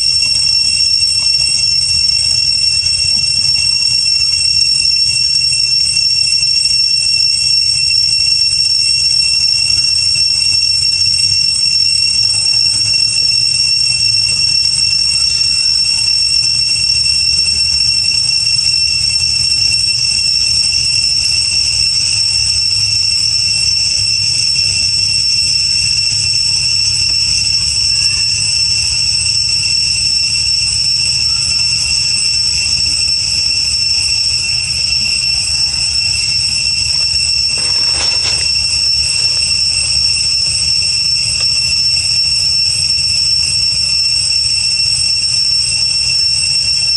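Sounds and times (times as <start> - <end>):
high-pitched buzzing drone: 0.0 - 46.9.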